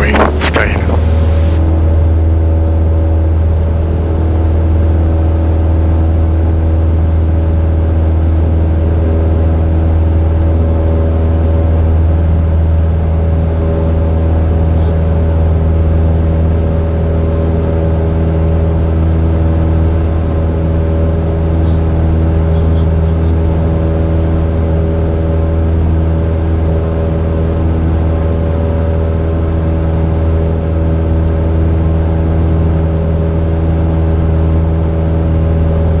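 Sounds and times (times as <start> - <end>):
propeller plane engine droning: 0.0 - 36.0.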